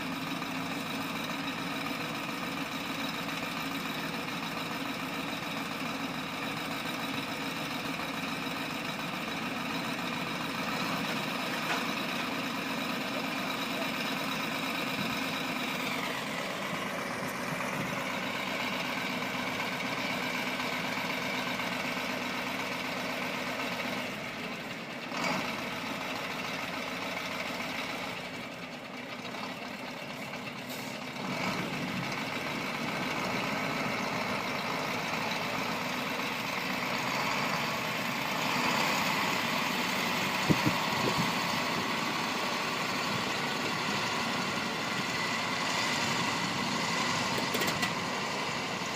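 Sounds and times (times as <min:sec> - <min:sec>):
heavy machine engine running: 0:00.0 - 0:48.9.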